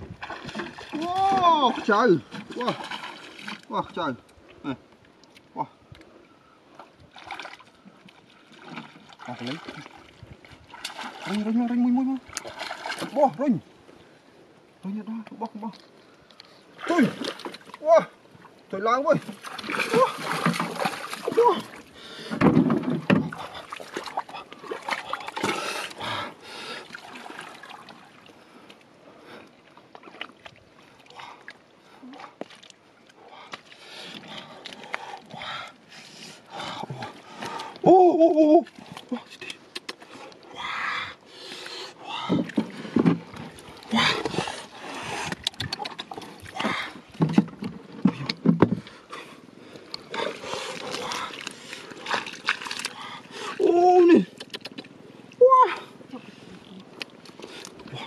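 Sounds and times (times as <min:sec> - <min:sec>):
splashing in mud and water: 0:00.0 - 0:05.6, 0:06.8 - 0:13.6, 0:15.1 - 0:18.2, 0:18.8 - 0:28.3, 0:29.7 - 0:41.2, 0:42.0 - 0:58.0.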